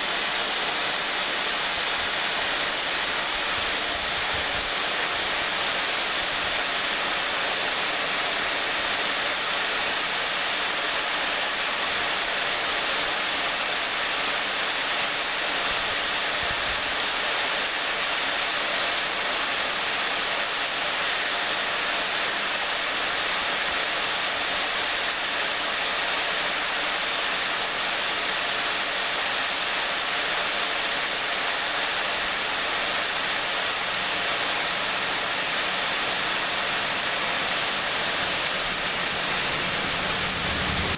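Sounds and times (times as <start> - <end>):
waterfall pouring: 0.0 - 40.9.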